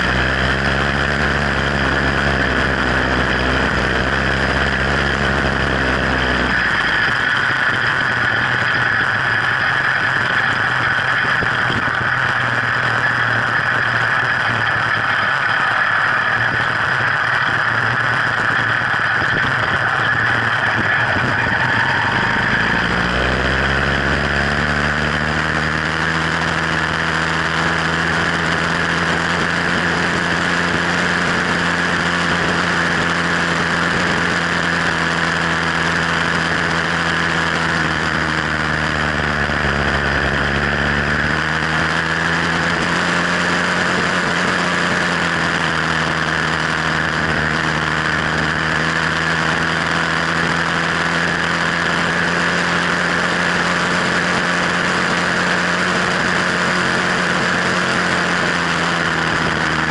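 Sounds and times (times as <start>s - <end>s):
two-stroke bicycle engine running: 0.0s - 59.9s.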